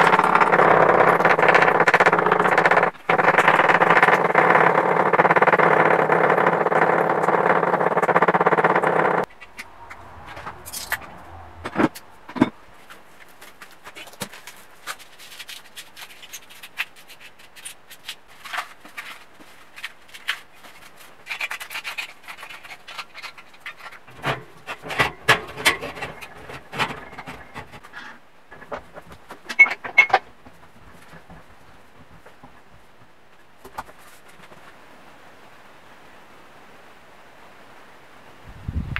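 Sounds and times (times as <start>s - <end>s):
scraping and rubbing on metal: 0.0s - 12.1s, 12.7s - 32.8s.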